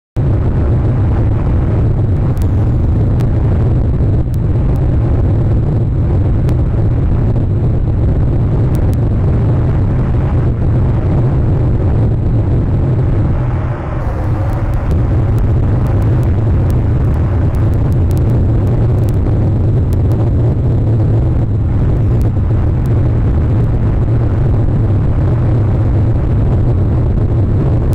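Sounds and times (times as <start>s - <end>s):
wind rumbling on microphone: 0.2s - 27.9s.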